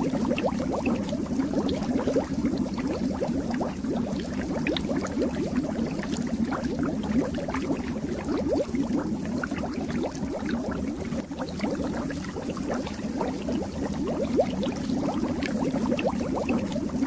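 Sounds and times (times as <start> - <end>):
fish tank water bubbling: 0.0 - 17.0.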